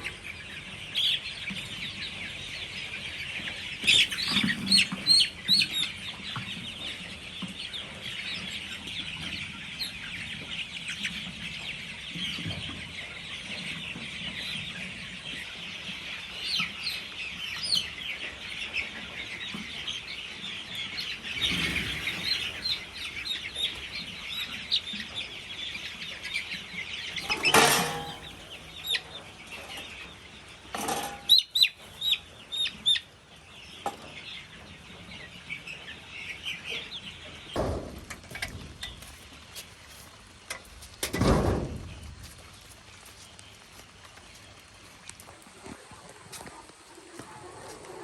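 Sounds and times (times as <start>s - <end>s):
chickens clucking and chirping: 0.0s - 48.0s.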